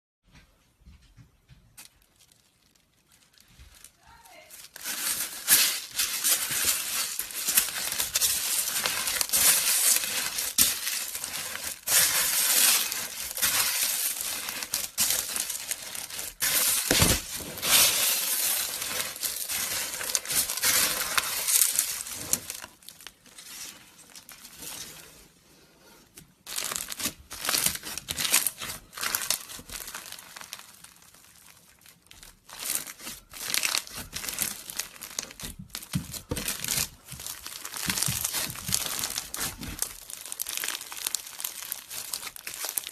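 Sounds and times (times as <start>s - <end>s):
slime crackling by hand: 1.7s - 25.1s, 26.4s - 42.9s.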